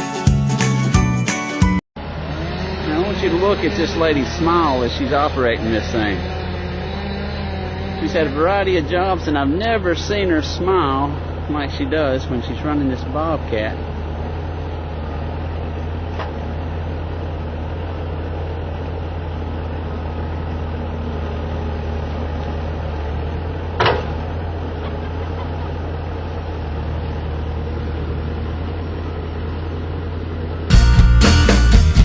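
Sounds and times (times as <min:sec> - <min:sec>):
loader engine running: 0:00.0 - 0:32.0.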